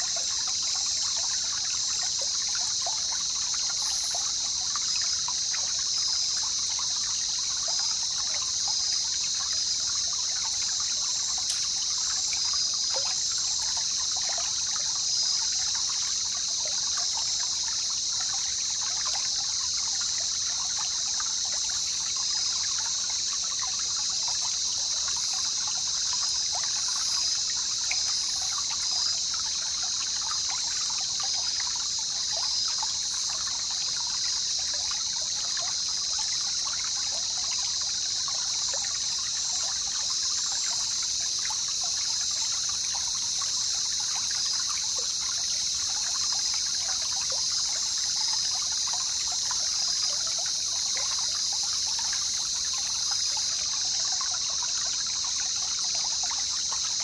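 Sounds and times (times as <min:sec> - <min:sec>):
high-pitched insect drone: 0:00.0 - 0:18.6, 0:19.2 - 0:57.0.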